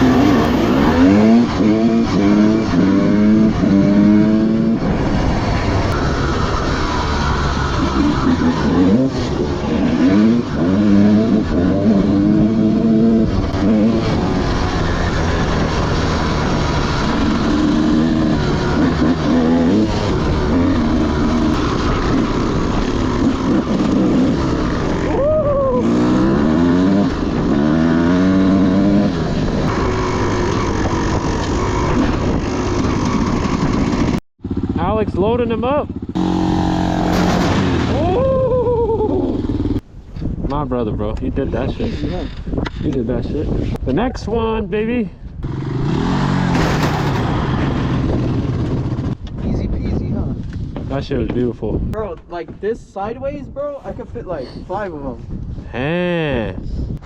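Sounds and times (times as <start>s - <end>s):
dirt bike engines revving: 0.0s - 39.8s, 40.5s - 50.2s.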